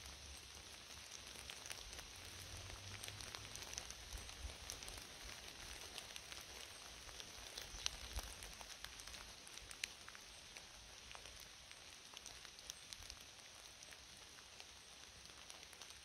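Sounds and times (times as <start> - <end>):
rain pattering: 0.0 - 16.0
raindrops ticking: 0.0 - 16.0.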